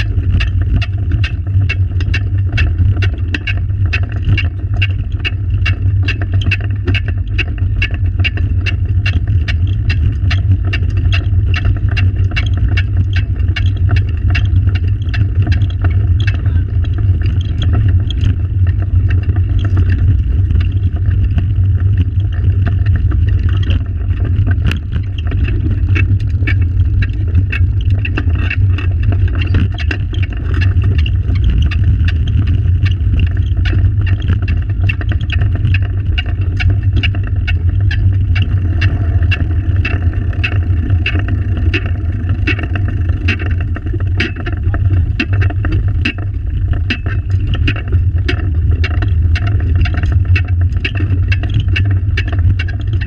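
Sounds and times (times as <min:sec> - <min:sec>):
clicking and rattling: 0:00.0 - 0:53.0
go-kart wheels rumbling on tarmac: 0:00.0 - 0:53.0.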